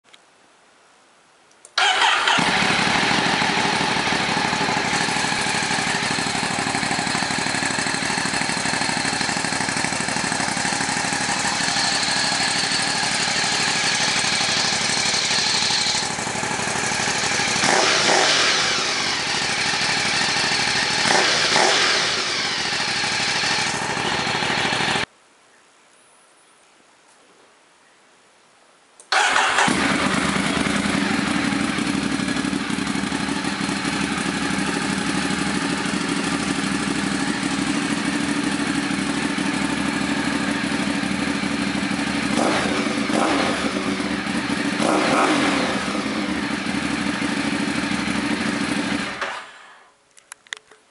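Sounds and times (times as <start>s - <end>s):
motorcycle engine idling and revving: 1.8s - 25.1s, 29.2s - 49.8s.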